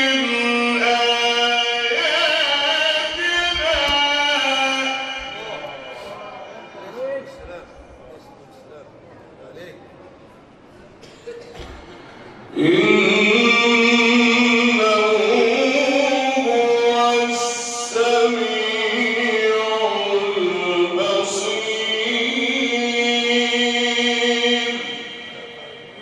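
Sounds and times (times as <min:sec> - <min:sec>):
man chanting melismatic recitation: 0:00.0 - 0:08.1, 0:12.5 - 0:26.0.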